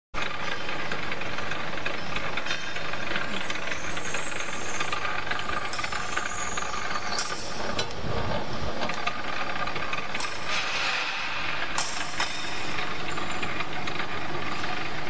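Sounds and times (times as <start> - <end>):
wire stripping machine whirring: 0.2 - 15.0.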